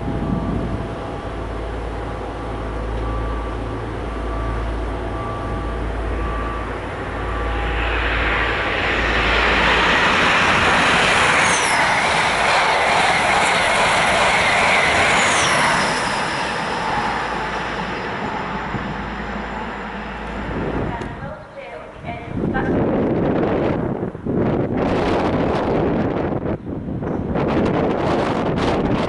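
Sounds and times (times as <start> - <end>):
diesel train rumble: 0.0 - 29.0
train wheels rushing on rails: 0.0 - 29.0.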